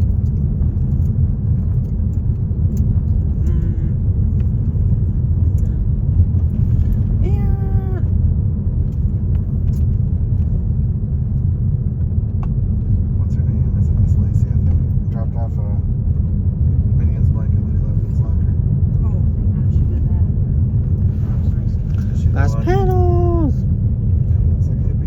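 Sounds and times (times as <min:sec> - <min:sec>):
car cabin driving rumble: 0:00.0 - 0:25.0.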